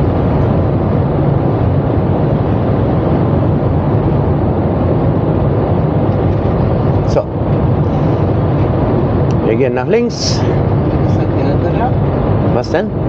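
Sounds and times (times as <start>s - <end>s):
vehicle cab driving drone: 0.0s - 13.0s.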